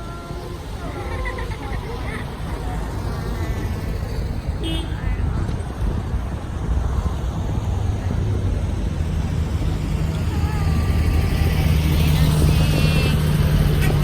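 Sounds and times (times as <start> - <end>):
car engine rumble driving past: 0.0 - 14.0.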